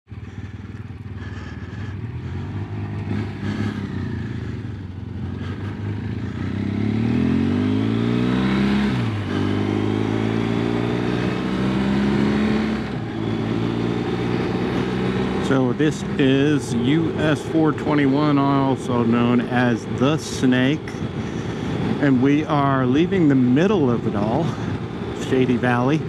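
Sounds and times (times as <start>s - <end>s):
motorcycle engine accelerating: 0.1s - 26.0s.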